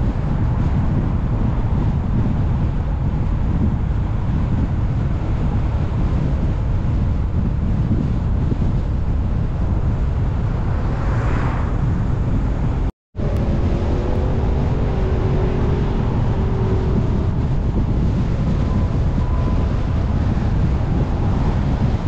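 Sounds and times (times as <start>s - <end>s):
car driving rumble: 0.0s - 22.0s
road noise: 0.0s - 22.0s
wind noise: 0.0s - 22.0s.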